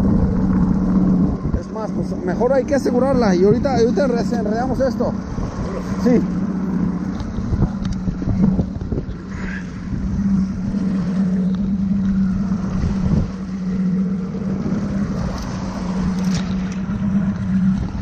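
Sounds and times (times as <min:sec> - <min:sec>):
outboard motor droning: 0:00.0 - 0:18.0
water washing past boat: 0:00.0 - 0:18.0
wind on microphone: 0:00.0 - 0:18.0.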